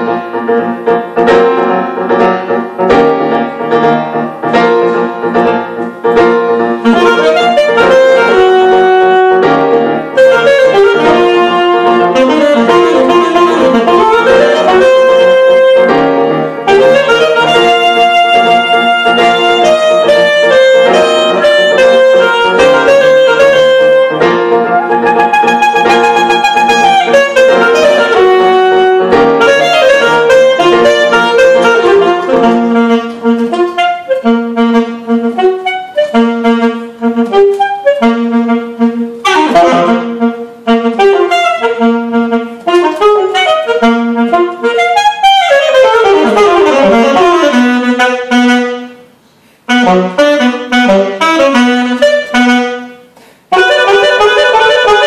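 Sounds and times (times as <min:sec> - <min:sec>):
alto saxophone: 0:00.0 - 0:55.0
piano accompaniment: 0:00.0 - 0:55.0.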